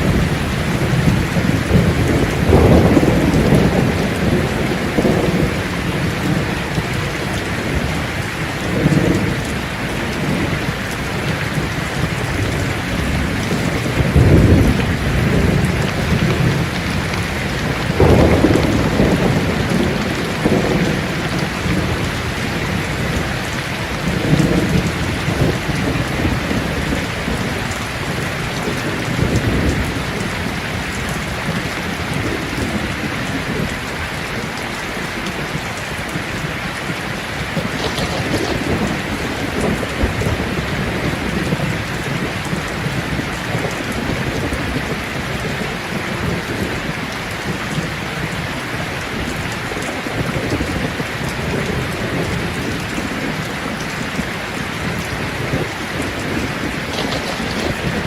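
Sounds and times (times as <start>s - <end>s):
low rumbles of thunder: 0.0s - 58.0s
steady rain falling: 0.0s - 58.0s.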